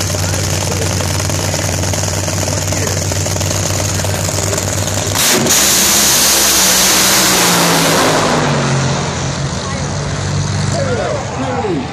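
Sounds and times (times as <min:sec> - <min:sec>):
drag racing engines roaring: 0:00.0 - 0:11.9.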